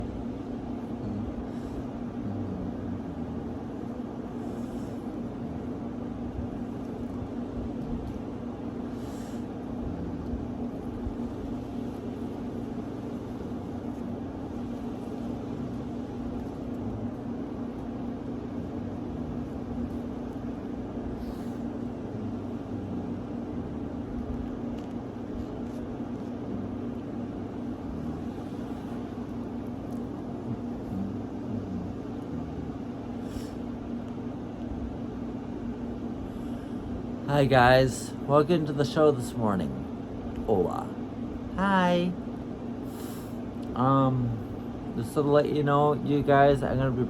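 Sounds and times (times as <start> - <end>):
low mechanical hum: 0.0 - 47.0.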